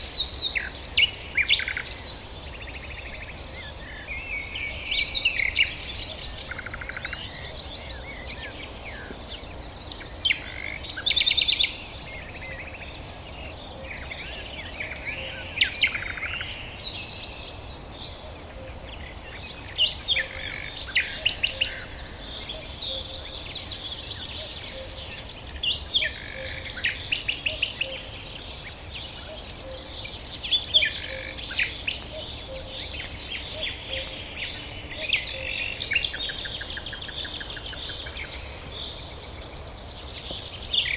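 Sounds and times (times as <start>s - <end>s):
faint steady background hiss: 0.0s - 40.9s
small birds chirping and singing: 0.0s - 40.9s.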